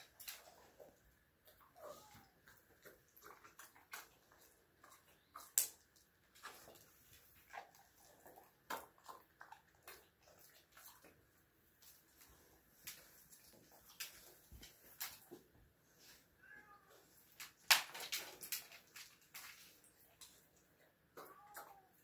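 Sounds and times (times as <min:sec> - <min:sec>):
paws clicking on tile floor: 0:00.0 - 0:15.7, 0:17.2 - 0:22.0.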